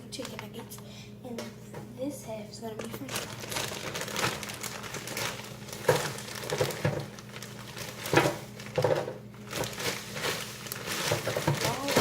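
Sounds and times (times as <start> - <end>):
plastic bag crinkling: 0.1 - 0.6, 2.6 - 12.0.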